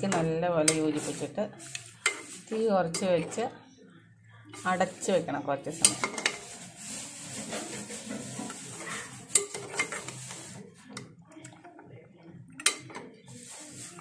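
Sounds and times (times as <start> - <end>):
metal spoon scraping a pot: 0.0 - 3.6, 4.5 - 11.8, 12.6 - 14.0.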